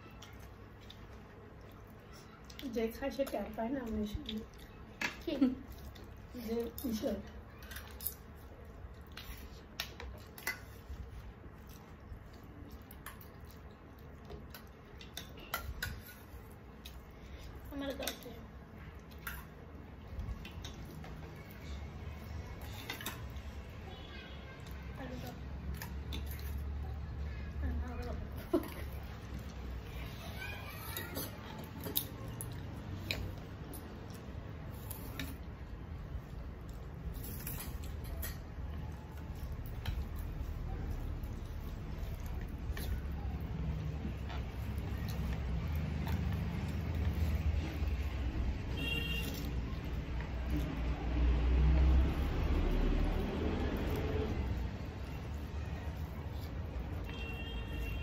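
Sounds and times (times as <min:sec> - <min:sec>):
wet chewing clicks and smacks: 0:00.0 - 0:30.2, 0:31.0 - 0:58.0
squishing of rice by hand: 0:00.0 - 0:58.0.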